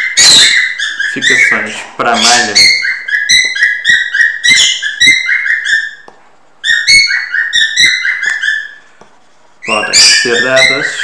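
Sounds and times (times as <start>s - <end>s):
stylus squeaking on a screen: 0.0s - 11.0s.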